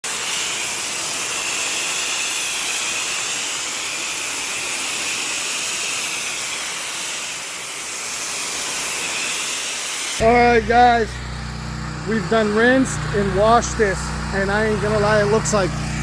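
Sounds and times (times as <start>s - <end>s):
pressure washer spraying water: 0.0s - 16.0s.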